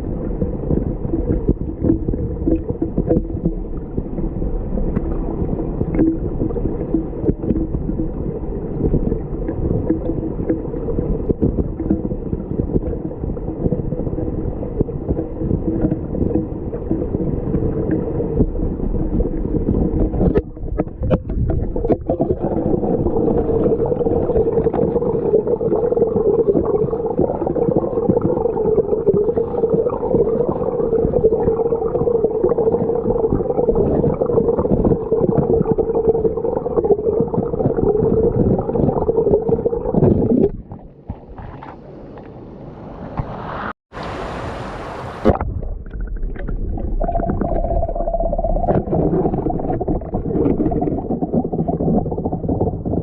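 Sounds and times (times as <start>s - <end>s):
underwater river rush and gurgle: 0.0s - 42.4s, 43.0s - 53.0s.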